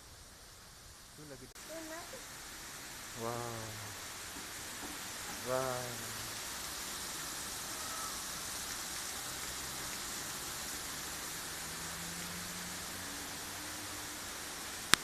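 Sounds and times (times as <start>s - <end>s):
falling water hiss: 0.0s - 15.0s.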